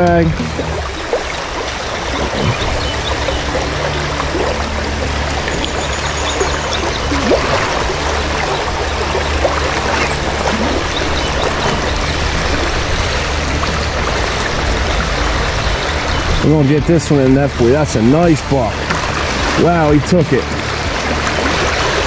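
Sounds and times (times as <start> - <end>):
creek water rushing over stones: 0.0 - 22.0
water gurgles: 0.0 - 22.0.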